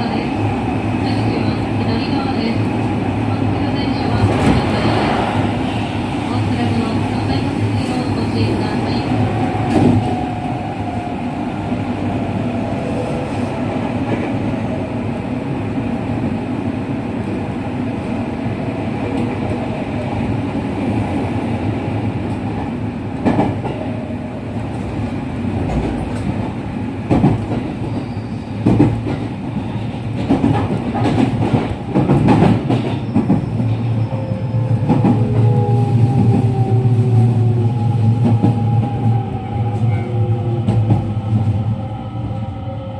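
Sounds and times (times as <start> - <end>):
rumble of train wheels: 0.0 - 42.9.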